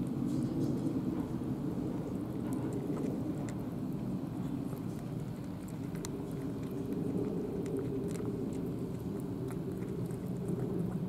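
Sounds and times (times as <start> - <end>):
cats crunching food: 0.0 - 11.0
steady low rumble: 0.0 - 11.0.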